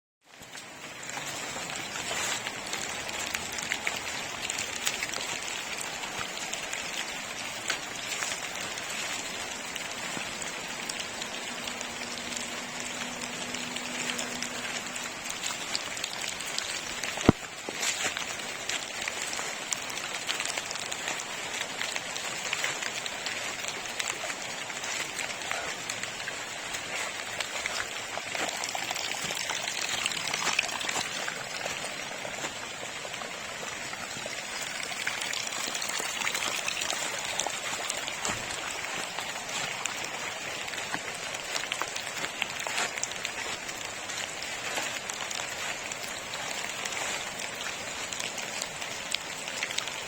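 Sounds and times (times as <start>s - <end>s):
water flowing and splashing: 0.2s - 50.0s.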